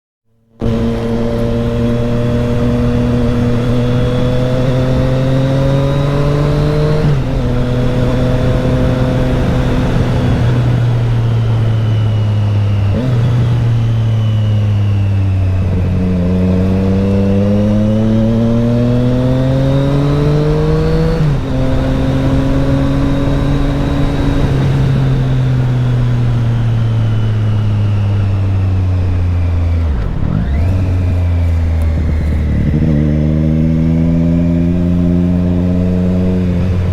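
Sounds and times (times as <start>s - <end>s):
motorcycle engine revving through gears: 0.3s - 36.9s.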